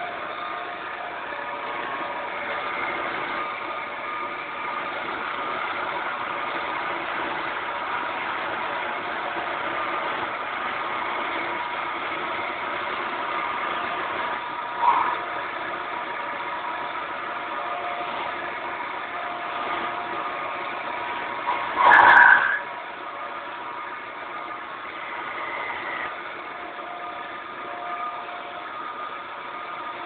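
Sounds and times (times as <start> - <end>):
wood lathe running: 0.0 - 30.0.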